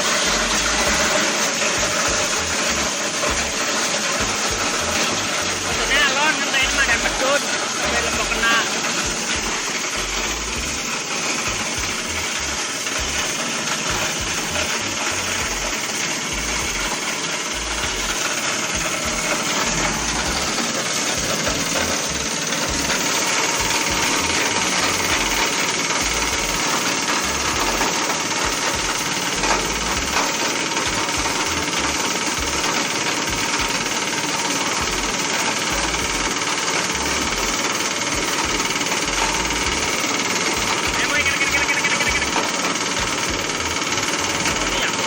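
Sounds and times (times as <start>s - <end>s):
plastic shredder grinding: 0.0s - 45.0s.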